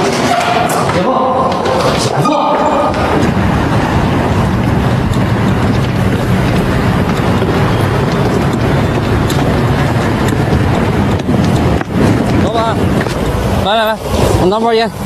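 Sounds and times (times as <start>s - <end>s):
outdoor street ambience: 0.0s - 15.0s.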